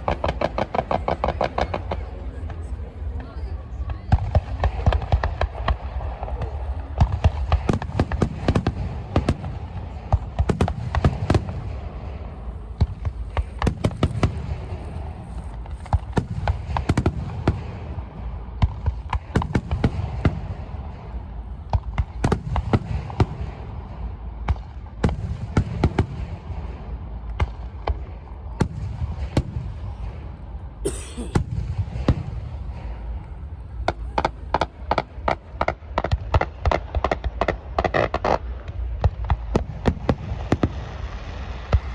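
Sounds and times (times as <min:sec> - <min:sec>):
fireworks bursting with bangs: 0:00.0 - 0:41.9.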